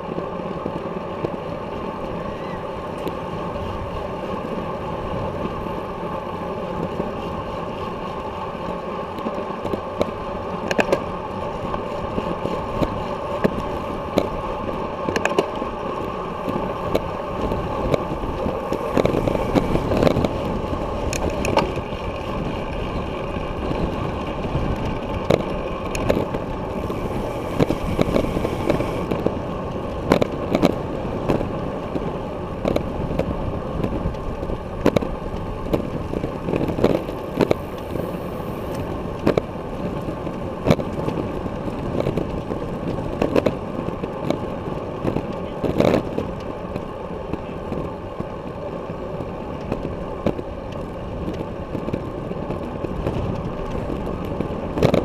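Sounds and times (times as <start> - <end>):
tyres rumbling on pavement: 0.0 - 55.0
wind rushing over camera: 0.0 - 55.0
bicycle knocks and rattles: 6.7 - 55.0.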